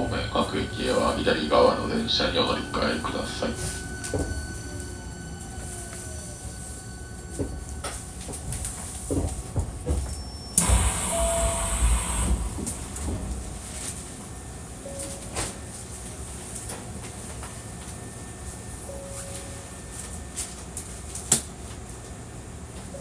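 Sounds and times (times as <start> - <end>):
train interior background: 0.0 - 23.0.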